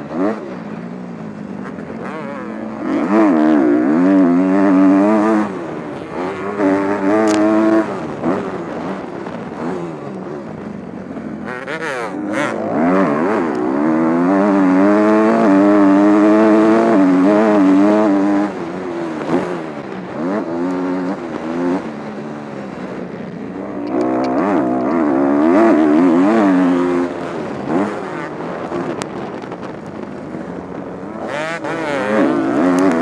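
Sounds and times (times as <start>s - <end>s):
motocross engine revving: 0.0s - 22.9s, 23.6s - 33.0s.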